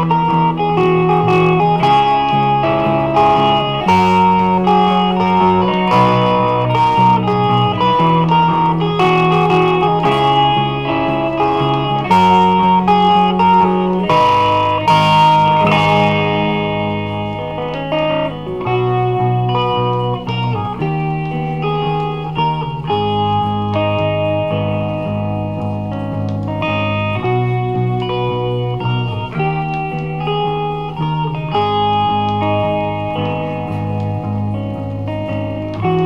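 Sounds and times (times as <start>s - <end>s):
instrumental pop music: 0.0s - 36.0s.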